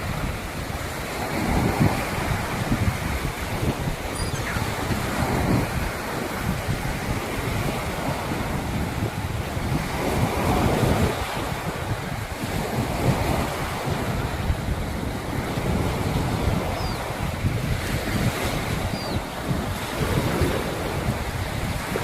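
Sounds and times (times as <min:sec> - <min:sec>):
sea waves washing onto shore: 0:00.0 - 0:22.0
wind buffeting microphone: 0:00.0 - 0:22.0.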